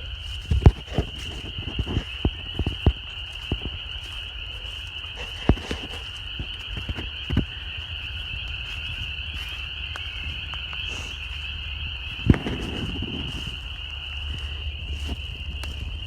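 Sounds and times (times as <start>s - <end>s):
frogs chorus calling: 0.0s - 16.0s
knocks and crunches: 0.0s - 16.0s.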